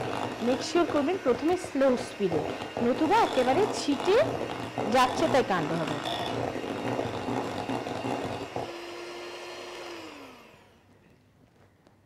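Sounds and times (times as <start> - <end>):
beaters churning batter: 0.0 - 11.0
electric mixer motor whine: 0.0 - 11.0.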